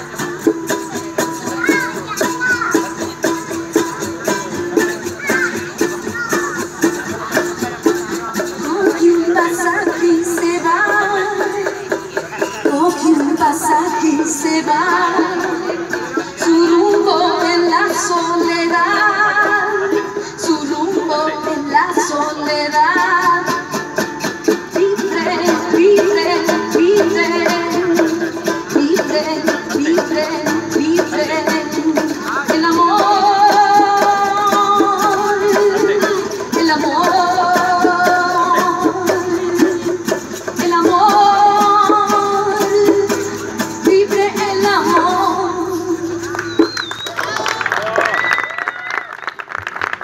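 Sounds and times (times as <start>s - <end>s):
strummed acoustic guitar: 0.0s - 47.0s
person singing: 4.7s - 23.8s, 24.7s - 46.3s.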